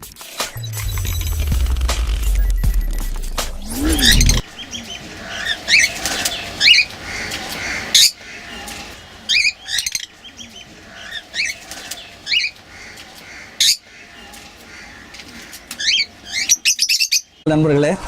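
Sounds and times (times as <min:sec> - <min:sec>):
lovebirds chirping: 0:02.3 - 0:17.4.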